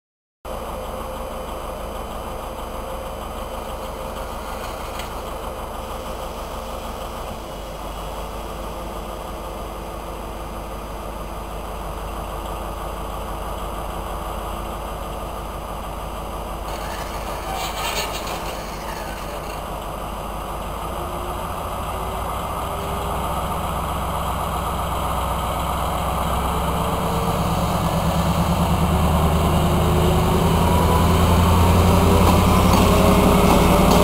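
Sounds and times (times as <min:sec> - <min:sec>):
diesel locomotive idling: 0:00.5 - 0:34.0.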